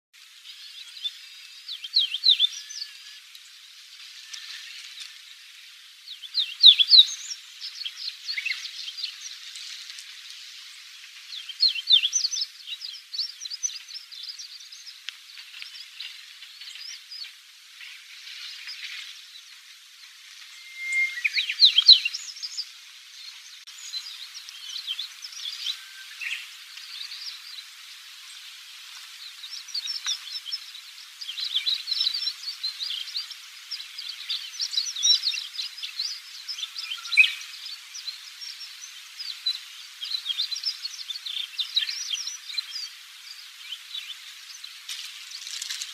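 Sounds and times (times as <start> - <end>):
steady hiss: 0.2 - 45.9
bird twittering chirps: 0.6 - 3.6, 6.1 - 9.5, 10.6 - 19.6, 20.3 - 28.4, 29.2 - 45.9.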